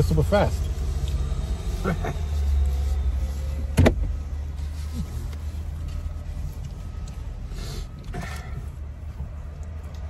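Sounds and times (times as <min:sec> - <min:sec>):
car idling rumble: 0:00.0 - 0:10.0.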